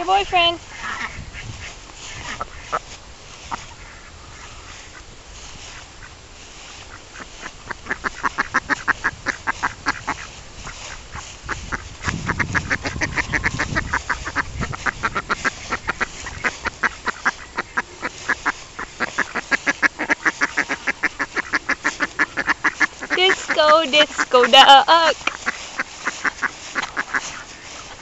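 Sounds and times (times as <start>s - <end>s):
duck quacking rapidly: 0.7s - 2.8s, 7.1s - 28.0s.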